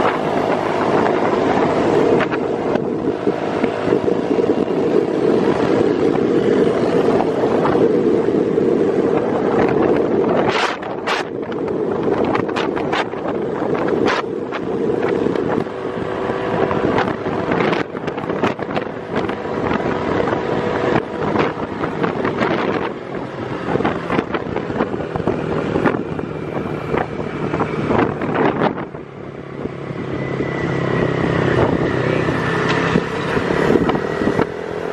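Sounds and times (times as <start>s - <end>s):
motor engine running: 0.0s - 34.9s
wind buffeting microphone: 0.0s - 34.9s.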